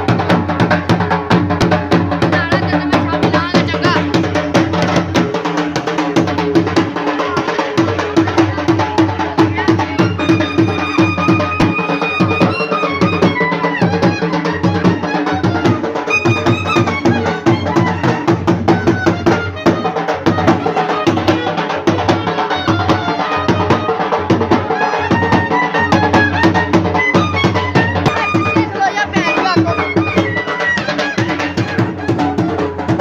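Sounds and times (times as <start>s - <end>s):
folk music with fast drum beat: 0.0s - 33.0s.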